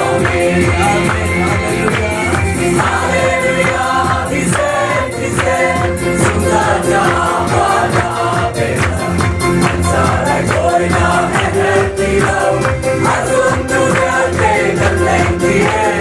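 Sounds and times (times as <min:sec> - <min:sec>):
crowd singing in unison: 0:00.0 - 0:16.0
music with steady beat: 0:00.0 - 0:16.0.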